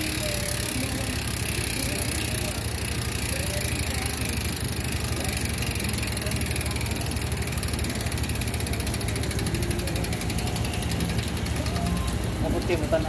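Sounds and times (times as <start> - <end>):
bicycle chain whirring rattle: 0.0 - 13.0.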